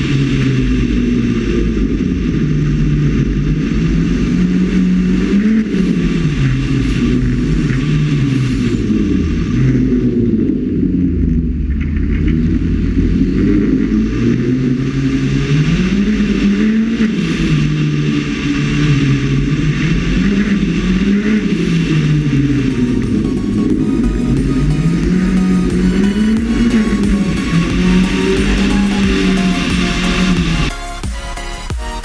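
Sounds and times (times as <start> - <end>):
muffled rally car engine revving: 0.0 - 32.0.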